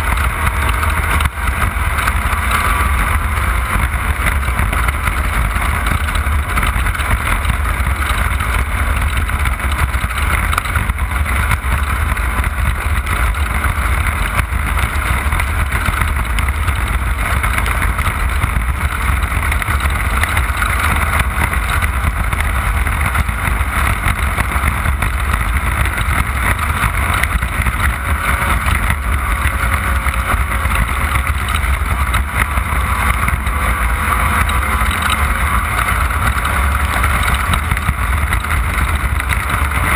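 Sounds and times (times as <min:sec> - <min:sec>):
heavy low rumble: 0:00.0 - 0:39.9
race car engine drone: 0:00.0 - 0:39.9.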